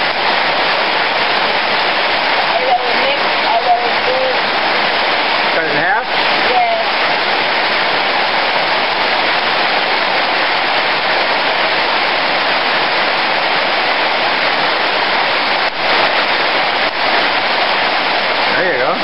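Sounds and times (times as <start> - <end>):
hard rain falling: 0.0 - 19.0.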